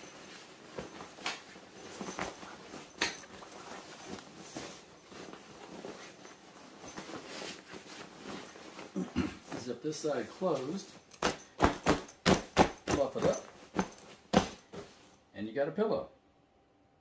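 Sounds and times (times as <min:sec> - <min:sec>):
fabric rustling and scraping: 0:00.0 - 0:15.2.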